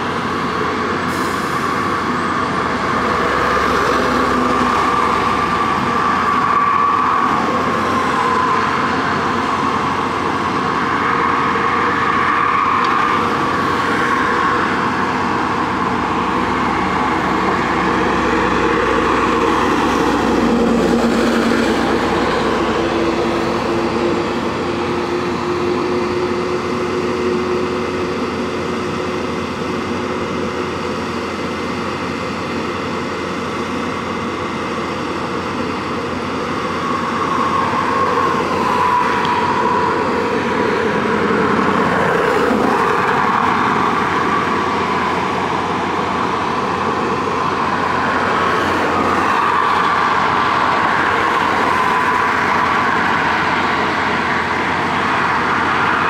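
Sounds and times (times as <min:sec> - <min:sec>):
mechanical drone with high whine: 0:00.0 - 0:56.0.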